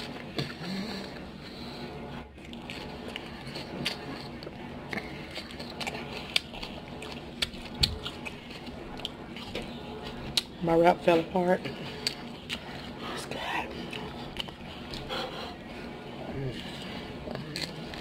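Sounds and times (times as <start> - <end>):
person chewing food: 0.0 - 10.6, 11.6 - 18.0.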